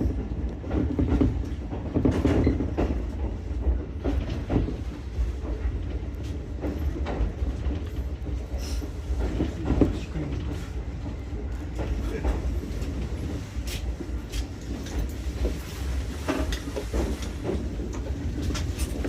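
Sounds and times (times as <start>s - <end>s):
electric railcar rumble: 0.0s - 19.0s
wheels clicking over rail joints: 0.1s - 19.0s.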